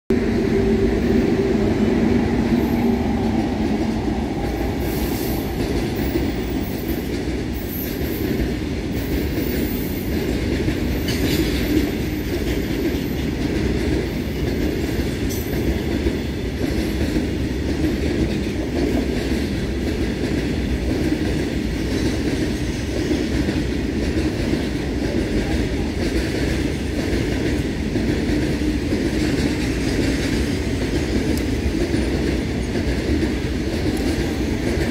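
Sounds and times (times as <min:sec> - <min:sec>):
freight train rumbling past: 0:00.1 - 0:34.9.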